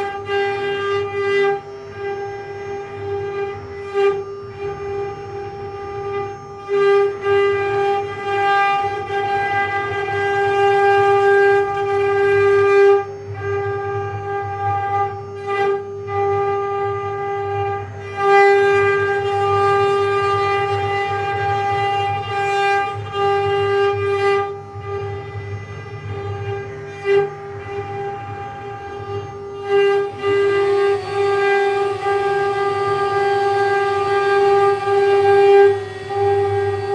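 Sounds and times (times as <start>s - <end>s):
cnc machine motor whine: 0.0s - 36.9s.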